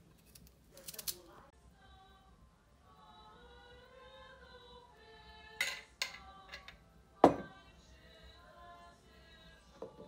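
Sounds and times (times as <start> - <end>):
soft background music: 0.8 - 10.0.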